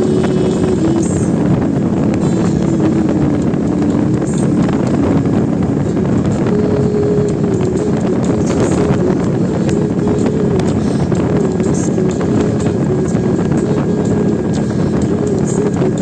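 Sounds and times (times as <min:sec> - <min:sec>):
motorcycle engine at speed: 0:00.0 - 0:16.0
wind noise on microphone: 0:00.0 - 0:16.0.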